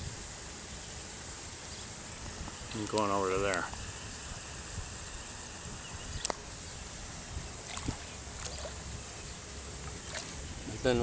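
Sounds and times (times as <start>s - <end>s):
runoff water rushing: 0.0s - 11.0s.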